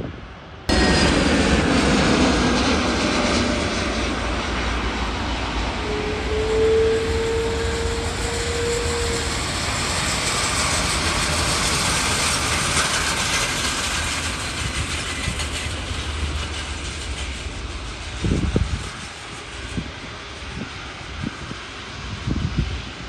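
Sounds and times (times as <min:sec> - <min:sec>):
jet engine whine: 0:00.0 - 0:23.0
jet engine hiss: 0:00.7 - 0:23.0.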